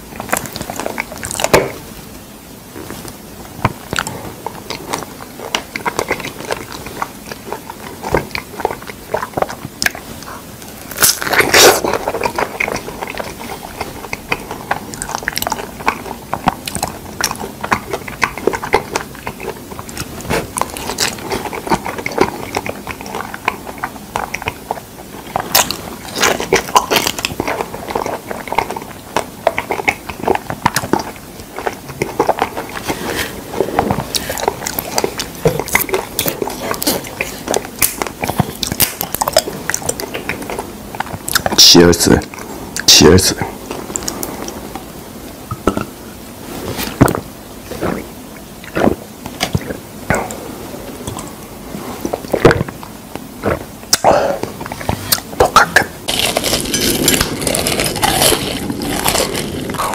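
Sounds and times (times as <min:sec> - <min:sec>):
wet chewing sounds: 0:00.0 - 0:59.9.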